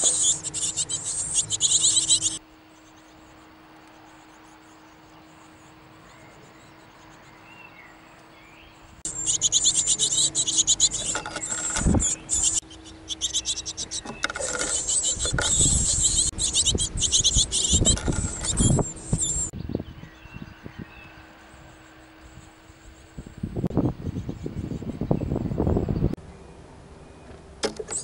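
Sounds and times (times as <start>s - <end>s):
nestlings chirping: 0.0s - 26.1s.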